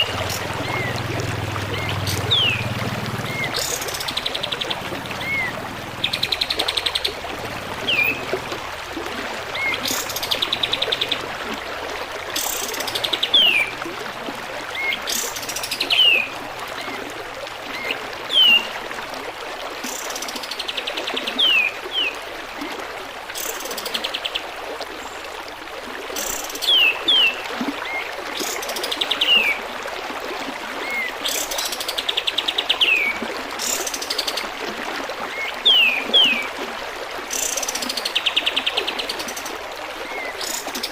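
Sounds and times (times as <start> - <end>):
trickle of running water: 0.0 - 40.9.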